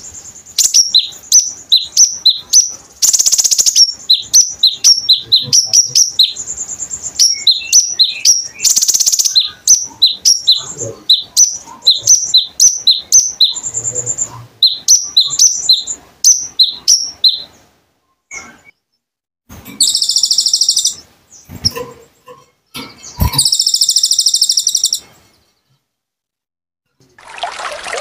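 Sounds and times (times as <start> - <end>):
buzzy high bird trills: 0.0 - 17.6, 19.8 - 25.1
songbird chirping: 0.0 - 19.1, 19.7 - 26.0.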